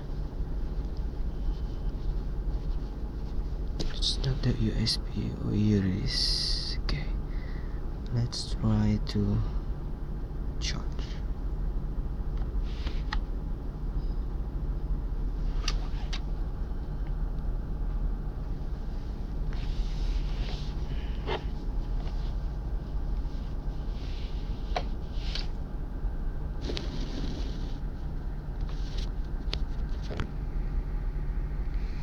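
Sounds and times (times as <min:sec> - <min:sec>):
low background rumble: 0:00.0 - 0:32.0.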